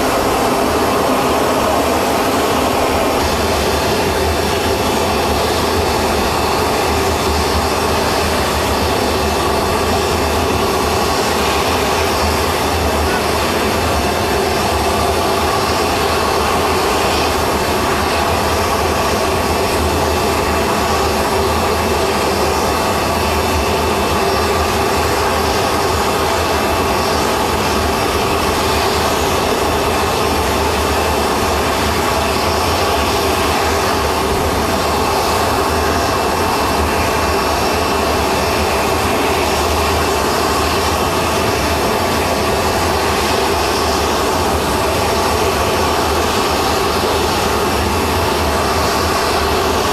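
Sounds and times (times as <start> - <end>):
jet engine running steadily: 0.0 - 49.9.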